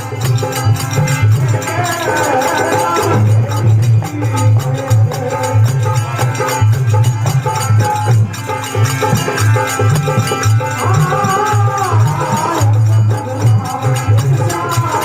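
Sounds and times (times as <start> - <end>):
hand drum quick rhythm: 0.0 - 15.0.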